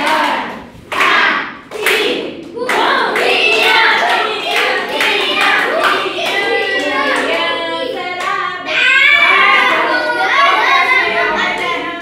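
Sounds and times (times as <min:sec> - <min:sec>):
rhythmic hand clapping: 0:00.0 - 0:08.5, 0:10.4 - 0:12.0
children and adults singing: 0:00.0 - 0:12.0.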